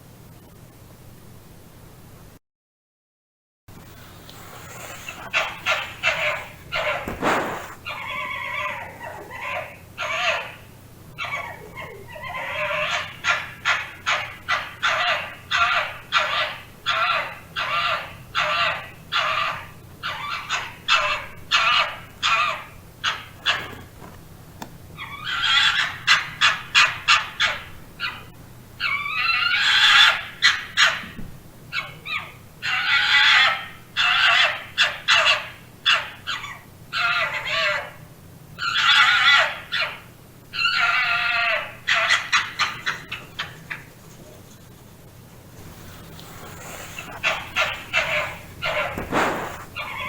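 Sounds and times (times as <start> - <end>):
fox yelping: 4.7 - 24.2, 25.0 - 44.4, 45.8 - 50.0.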